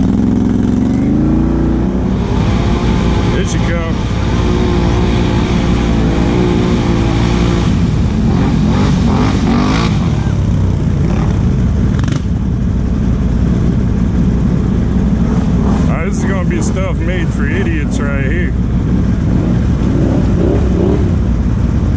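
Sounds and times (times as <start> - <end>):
atv engine idling: 0.0 - 21.9
atv engine revving: 0.0 - 21.9.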